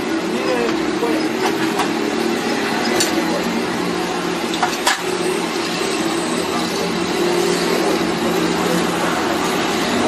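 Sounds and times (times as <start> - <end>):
fan heater whoosh and hum: 0.0 - 10.0.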